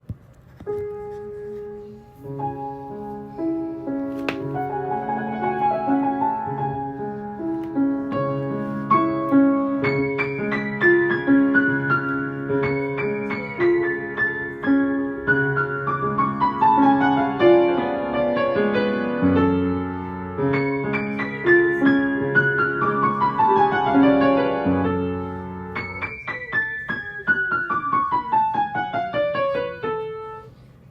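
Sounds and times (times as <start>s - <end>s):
background piano music: 0.6s - 30.4s.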